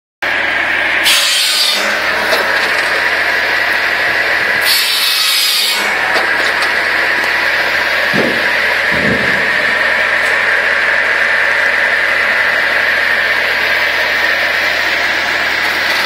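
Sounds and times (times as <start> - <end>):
tractor engine: 0.2 - 16.0
circular saw whining: 0.4 - 16.0
saw blade cutting log: 0.9 - 16.0.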